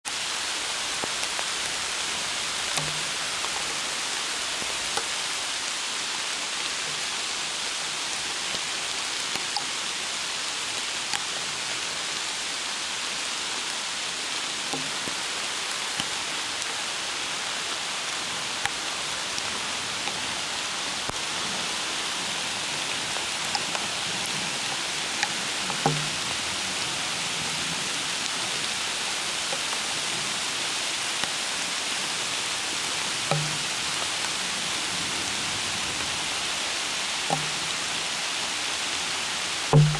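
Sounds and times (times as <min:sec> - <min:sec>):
rain falling through trees: 0:00.0 - 0:39.9
close water drips: 0:00.1 - 0:39.9.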